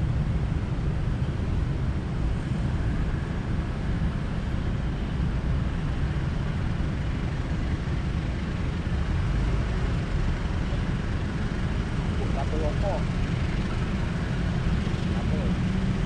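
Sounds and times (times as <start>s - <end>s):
distant vehicle noise: 0.0s - 16.0s.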